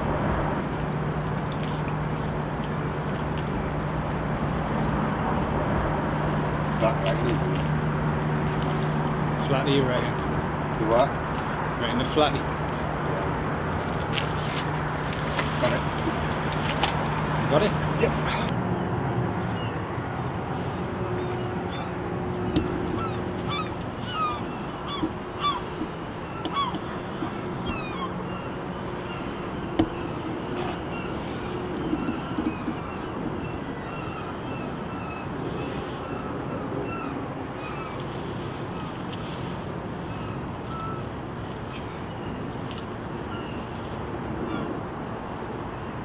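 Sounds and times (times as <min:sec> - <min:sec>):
wind rumble: 0:00.0 - 0:38.9
distant background noise: 0:00.0 - 0:46.0
low steady hum: 0:00.0 - 0:46.0
birds calling: 0:06.0 - 0:18.6, 0:19.4 - 0:44.8.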